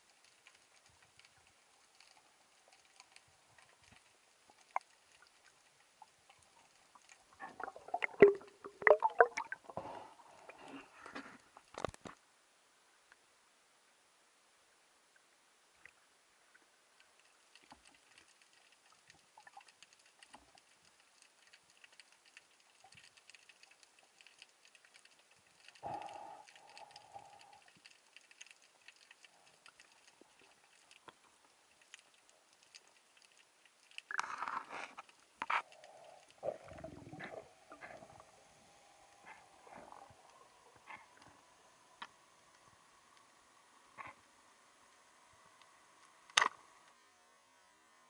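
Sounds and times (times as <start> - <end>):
underwater crackling and clicking: 0.0 - 12.2, 15.8 - 47.0.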